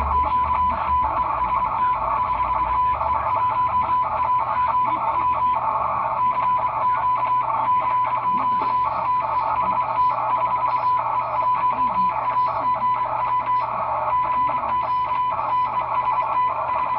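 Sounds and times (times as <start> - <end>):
morse code tone: 0.0 - 16.9
receiver noise hiss: 0.0 - 16.9.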